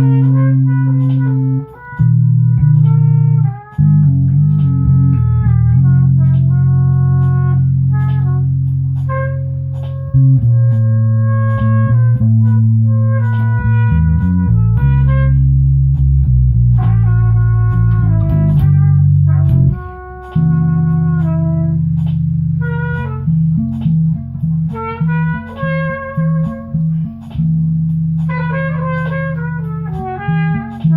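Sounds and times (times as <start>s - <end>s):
sustained bass line: 0.0s - 30.9s.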